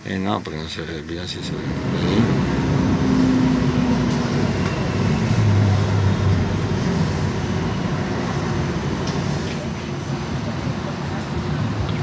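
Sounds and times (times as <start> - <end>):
tram rolling rumble: 0.0 - 12.0.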